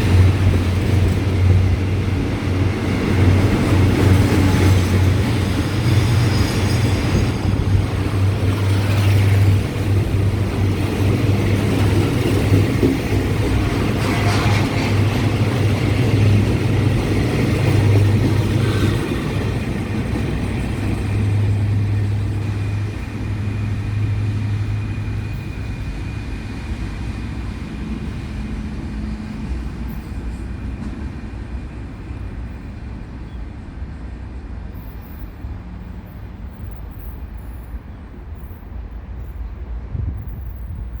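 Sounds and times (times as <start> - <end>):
locomotive engine drone: 0.0 - 38.5
freight train rumble: 0.0 - 41.0.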